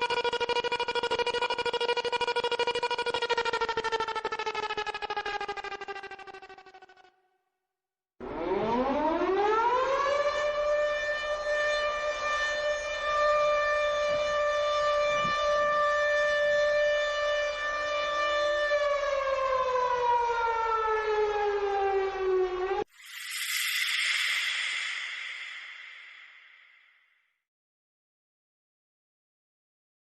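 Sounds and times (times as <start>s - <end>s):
siren wailing: 0.0s - 7.2s, 8.2s - 27.0s.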